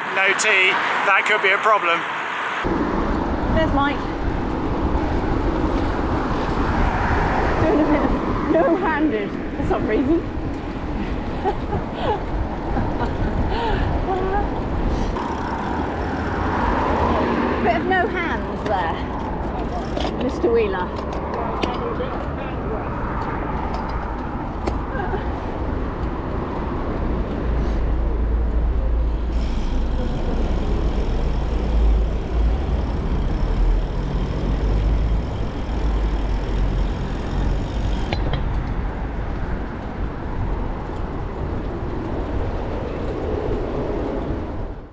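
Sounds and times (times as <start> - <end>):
road traffic: 0.0 - 44.9
wind rumbling on microphone: 2.6 - 17.6, 18.5 - 44.9.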